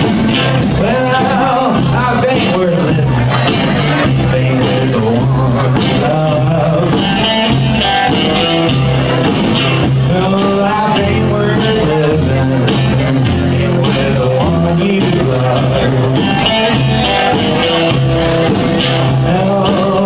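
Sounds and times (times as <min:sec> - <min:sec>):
man singing: 0:00.0 - 0:07.9, 0:09.8 - 0:17.9, 0:19.0 - 0:20.0
drum kit with cymbals: 0:00.0 - 0:20.0
guitar: 0:00.0 - 0:20.0
upright bass: 0:00.0 - 0:20.0.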